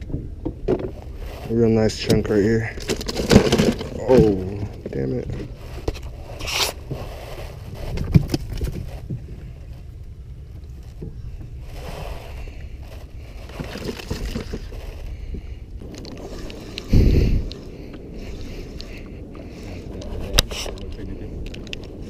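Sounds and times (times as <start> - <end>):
wind rumbling on microphone: 3.8 - 22.0.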